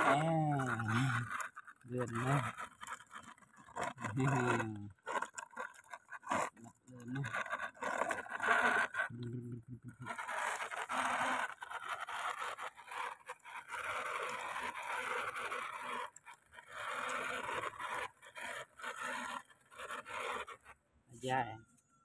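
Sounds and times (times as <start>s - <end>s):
plastic wheels scraping on concrete: 0.0s - 20.8s.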